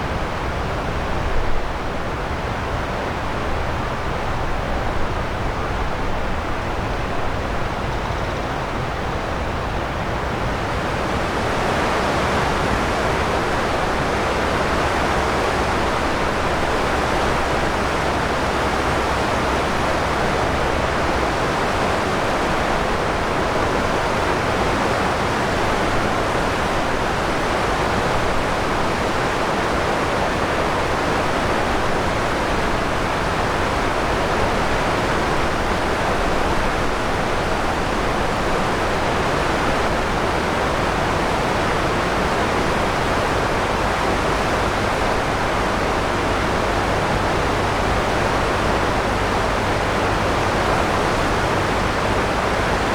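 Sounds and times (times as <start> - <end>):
flowing river water: 0.0 - 52.9.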